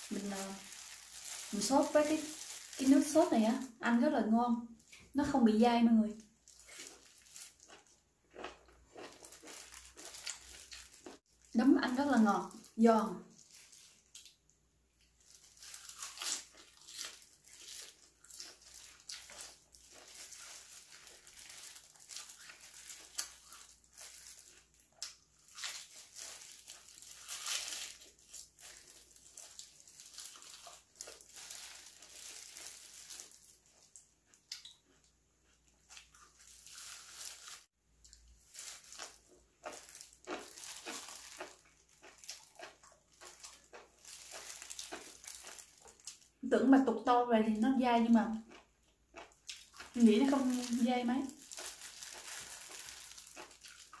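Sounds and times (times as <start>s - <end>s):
crunchy chewing: 6.4s - 11.5s, 13.3s - 46.3s, 48.4s - 54.0s.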